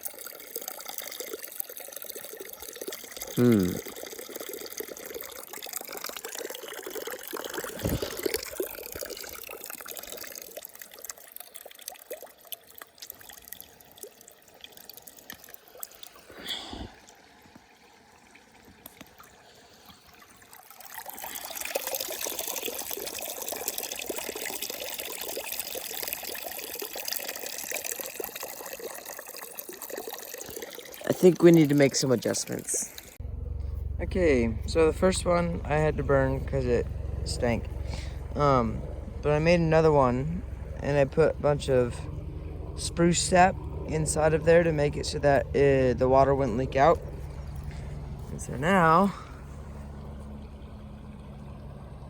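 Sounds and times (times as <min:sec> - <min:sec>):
water trickling into basket: 0:00.0 - 0:52.0.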